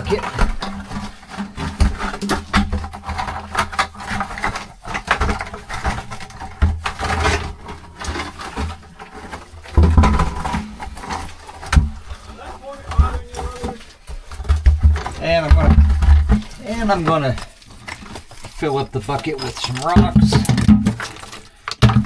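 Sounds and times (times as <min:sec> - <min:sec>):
bucket knocking against rock: 0:00.0 - 0:22.0.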